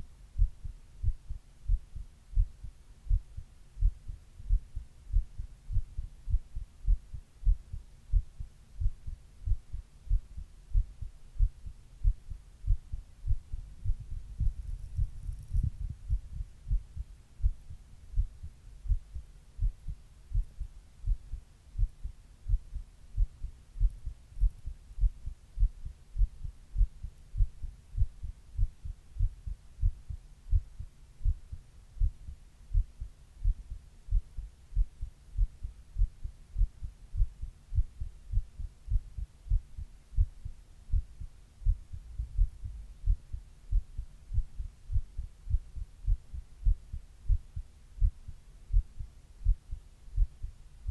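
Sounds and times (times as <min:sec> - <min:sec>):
muffled heartbeat: 0:00.0 - 0:50.9.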